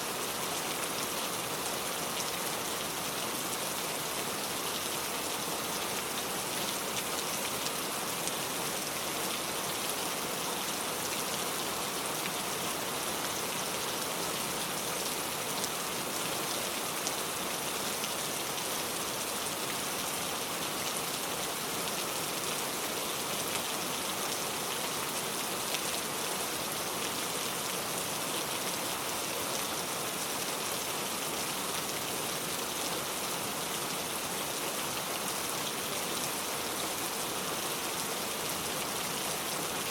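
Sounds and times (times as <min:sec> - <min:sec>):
rain falling on a car: 0:00.1 - 0:39.9.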